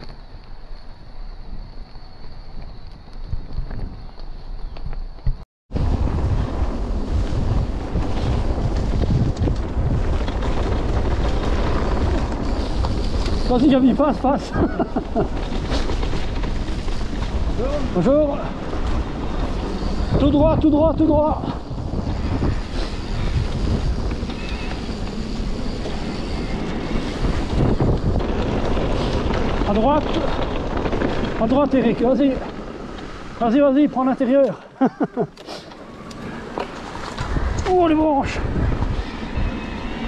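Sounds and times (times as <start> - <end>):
bike tyres rumbling on dirt: 0.0 - 34.8, 35.6 - 40.0
wind buffeting microphone: 1.4 - 40.0.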